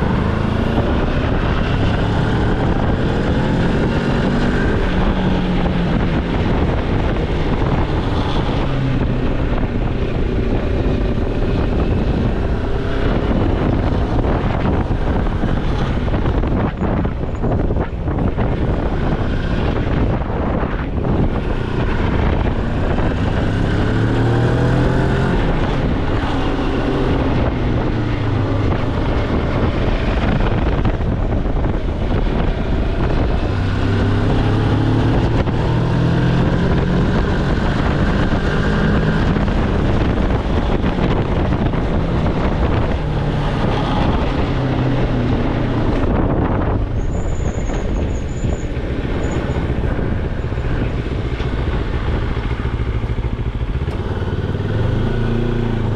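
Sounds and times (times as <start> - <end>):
motorcycle engine revving: 0.0 - 55.9
wind rush on microphone: 0.0 - 55.9.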